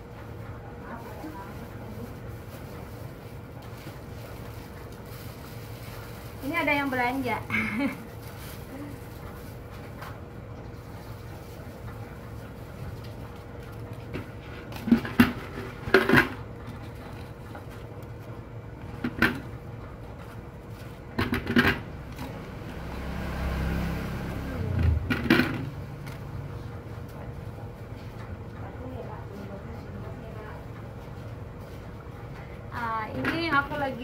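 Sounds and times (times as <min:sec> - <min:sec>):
background hum: 0:00.0 - 0:34.0.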